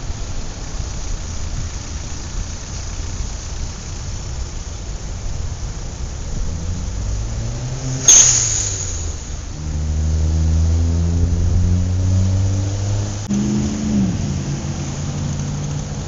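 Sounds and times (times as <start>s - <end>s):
motor vehicle engine running: 0.0s - 16.0s
wind and road noise: 0.0s - 16.0s.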